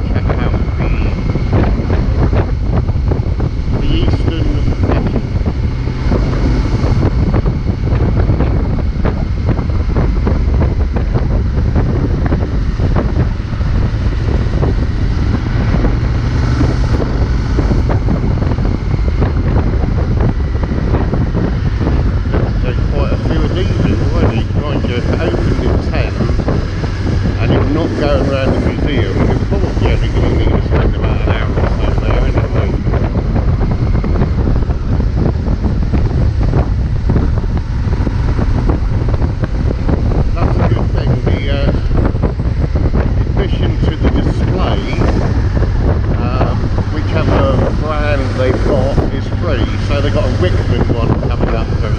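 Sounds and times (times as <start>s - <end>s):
wind buffeting the microphone: 0.0s - 51.9s.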